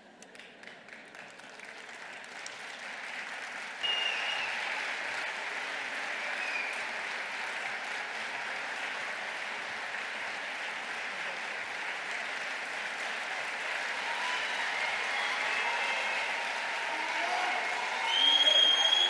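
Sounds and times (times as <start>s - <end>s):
audience applause: 0.0s - 19.0s.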